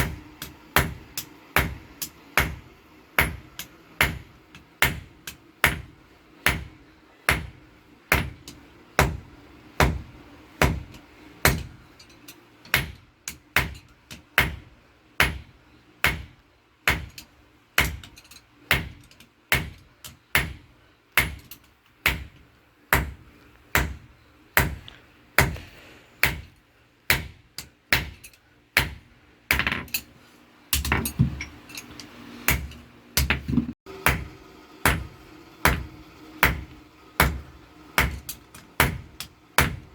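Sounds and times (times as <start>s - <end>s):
hammer striking steel on anvil: 0.0s - 23.2s, 26.2s - 30.0s, 30.7s - 39.9s.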